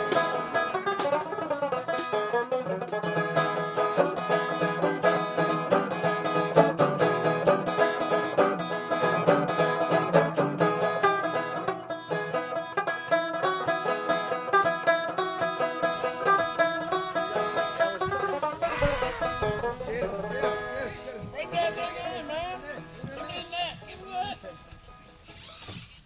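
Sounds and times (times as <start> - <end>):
bluegrass music with banjo: 0.0 - 25.3.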